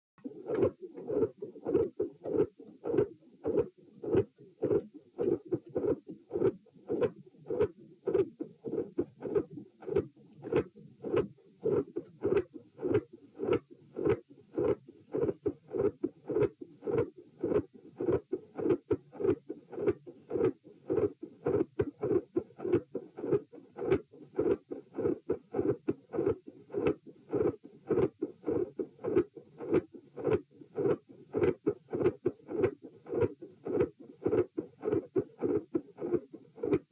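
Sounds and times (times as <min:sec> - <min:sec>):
heartbeat through stethoscope: 0:00.2 - 0:36.9.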